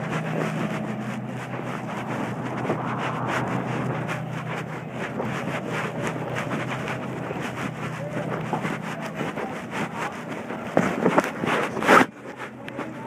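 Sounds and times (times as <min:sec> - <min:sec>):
low machinery hum: 0:00.0 - 0:13.0
wind buffeting microphone: 0:00.0 - 0:13.0.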